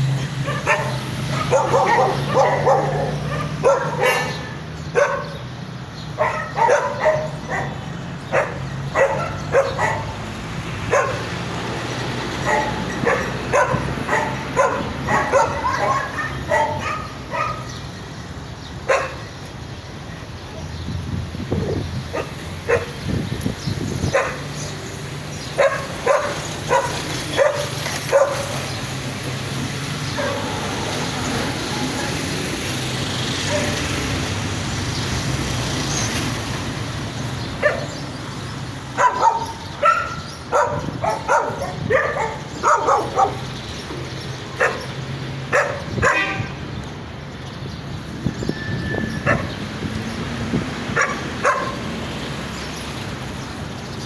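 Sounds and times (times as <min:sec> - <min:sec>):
dogs barking: 0:00.0 - 0:19.6, 0:21.5 - 0:46.6, 0:49.1 - 0:52.8.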